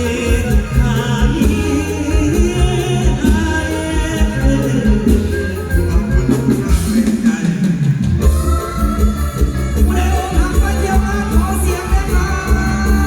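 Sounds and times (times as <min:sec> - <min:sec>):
heavy pulsing bass beat: 0:00.0 - 0:13.0.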